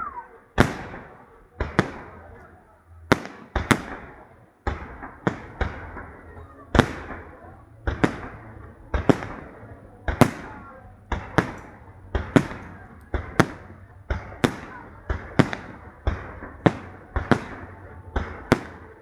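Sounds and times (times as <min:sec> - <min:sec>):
fireworks shells bursting: 0:00.0 - 0:19.0.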